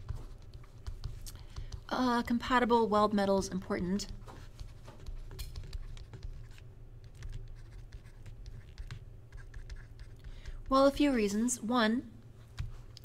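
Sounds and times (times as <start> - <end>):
stylus tapping and scratching on tablet: 0.0 - 11.3, 12.4 - 13.0.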